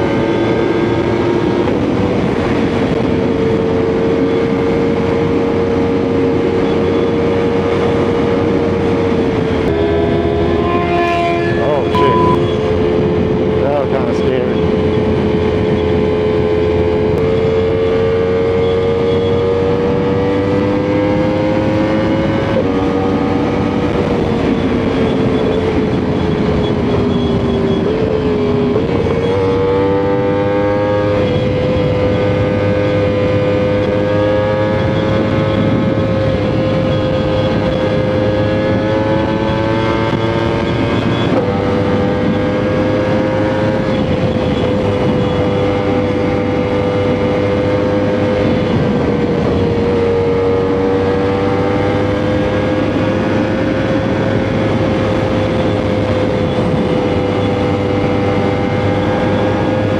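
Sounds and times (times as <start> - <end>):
motorcycle engine cruising: 0.0 - 59.9
wind noise: 0.0 - 59.9.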